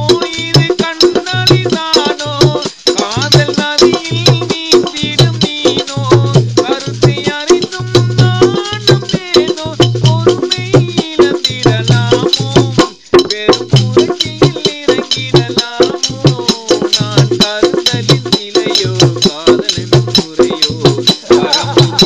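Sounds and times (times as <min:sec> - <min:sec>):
low drum beat: 0:00.0 - 0:22.0
person singing a song: 0:00.0 - 0:22.0
rattling percussion strikes: 0:00.0 - 0:22.0.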